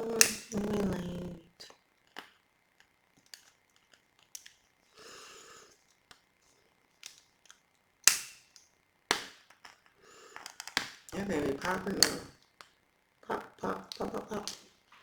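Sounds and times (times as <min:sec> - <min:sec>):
candle crackling: 0:00.0 - 0:15.0.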